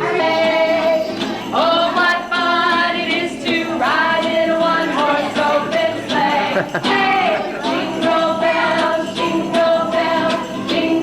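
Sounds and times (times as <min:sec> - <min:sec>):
group of high voices singing: 0:00.0 - 0:11.0
music: 0:00.0 - 0:11.0.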